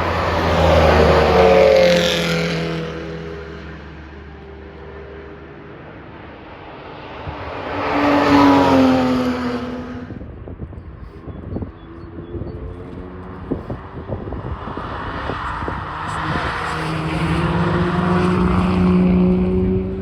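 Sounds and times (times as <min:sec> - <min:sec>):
cars driving past at speed: 0:00.0 - 0:20.0.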